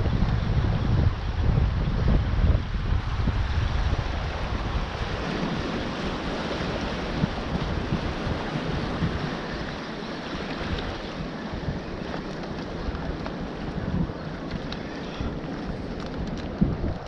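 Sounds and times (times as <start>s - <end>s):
wind buffeting microphone: 0.0s - 17.0s
sea water washing over rocks: 1.8s - 17.0s.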